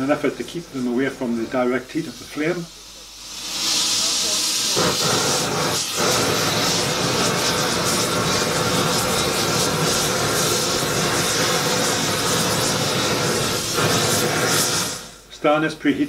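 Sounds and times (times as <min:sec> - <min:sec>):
propane torch burning: 0:00.0 - 0:16.0.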